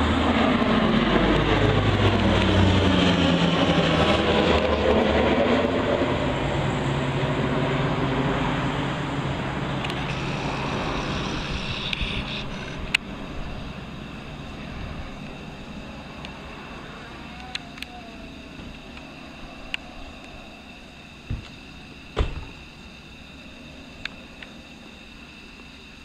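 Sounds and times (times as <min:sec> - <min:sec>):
turboprop engines passing overhead: 0:00.0 - 0:26.0.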